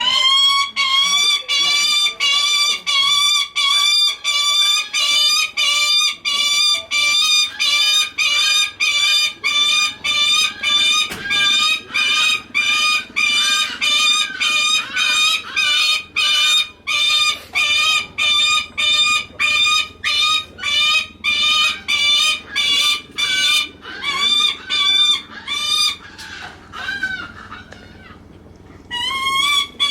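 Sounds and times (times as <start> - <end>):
falcon calling: 0.0 - 28.2, 28.9 - 29.9.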